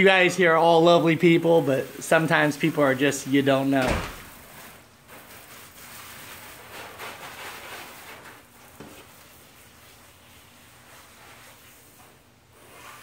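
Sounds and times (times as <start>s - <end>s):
hose water spraying on car: 0.4s - 13.0s.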